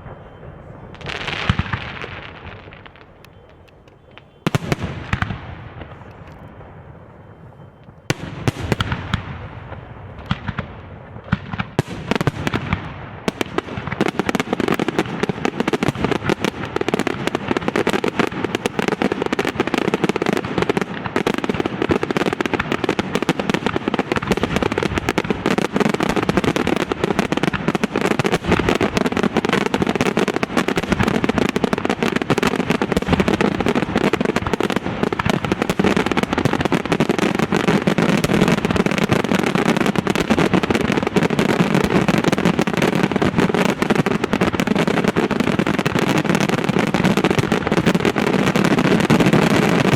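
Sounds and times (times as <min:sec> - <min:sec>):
fireworks bangs and crackling: 0:00.0 - 0:49.9.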